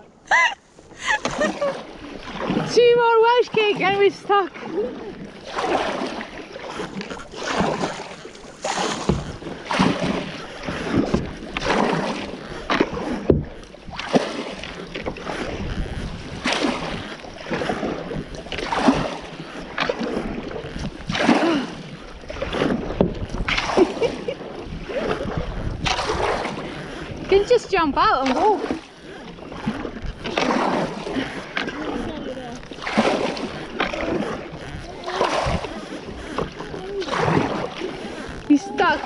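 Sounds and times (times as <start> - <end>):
paddle strokes splashing water: 0.0 - 39.0
wind rumbling on microphone: 0.0 - 39.0.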